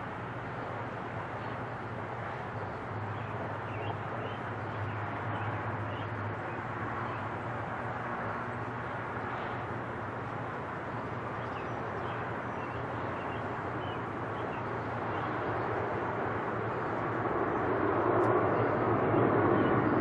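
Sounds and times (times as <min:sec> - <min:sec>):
jet engines drone: 0:00.0 - 0:20.0.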